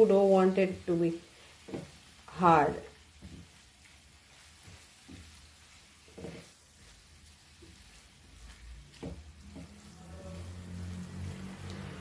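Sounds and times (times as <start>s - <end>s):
faint frying sizzle: 0.0s - 12.0s
spatula scraping pan: 0.0s - 12.0s.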